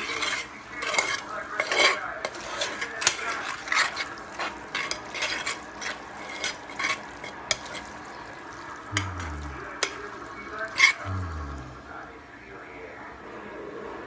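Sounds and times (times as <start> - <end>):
utensil scraping a pan: 0.0 - 11.3
food sizzling in a pan: 0.0 - 11.9.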